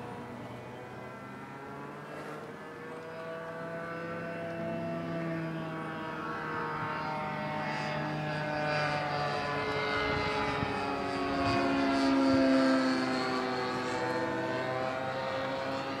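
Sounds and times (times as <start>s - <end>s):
model airplane engine: 0.0s - 16.0s.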